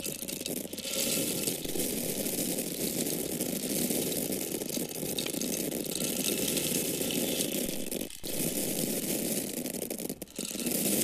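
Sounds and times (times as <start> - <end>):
dry corn kernels pouring: 0.0 - 11.0.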